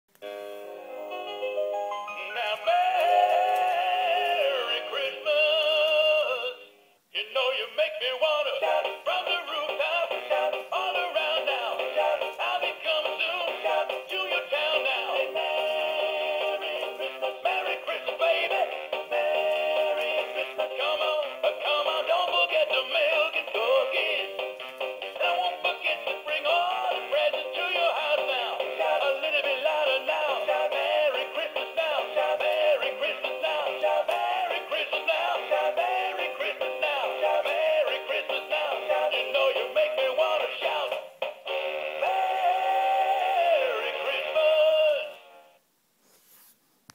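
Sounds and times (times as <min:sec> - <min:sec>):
toy singing in synthetic voice: 0:02.1 - 0:45.4.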